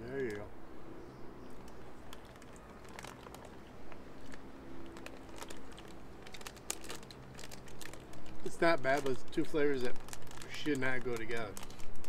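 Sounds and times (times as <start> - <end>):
plastic snack package crinkling: 1.6 - 12.0.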